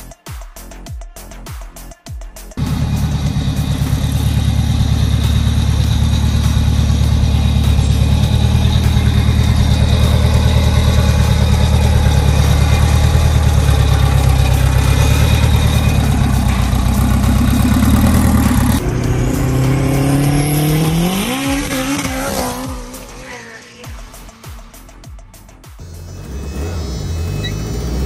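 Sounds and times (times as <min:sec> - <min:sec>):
car engine idling and revving: 0:02.5 - 0:28.0.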